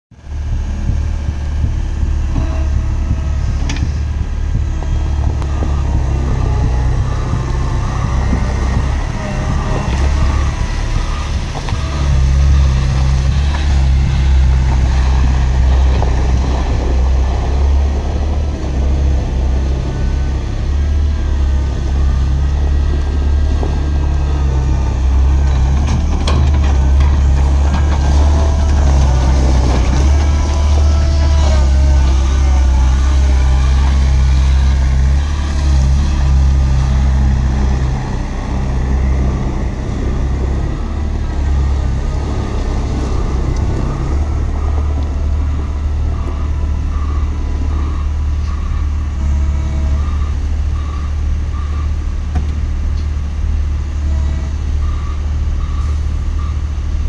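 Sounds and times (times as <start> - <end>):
excavator diesel engine running: 0.1 - 57.0.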